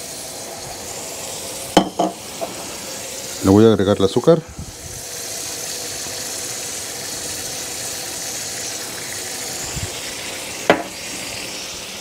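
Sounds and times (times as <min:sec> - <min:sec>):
carrots sizzling in a frying pan: 0:00.0 - 0:12.0.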